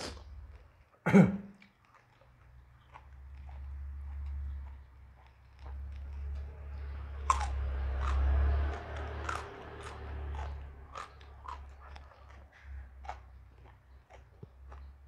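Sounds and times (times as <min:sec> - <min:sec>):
crunchy chewing: 0:00.0 - 0:15.0
steady low hum: 0:02.2 - 0:15.0.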